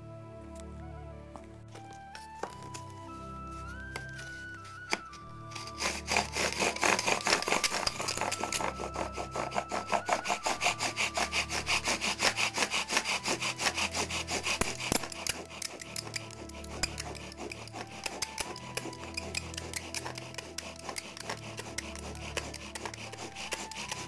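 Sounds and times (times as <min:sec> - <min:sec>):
bow drill spindle grinding: 0:01.7 - 0:24.0.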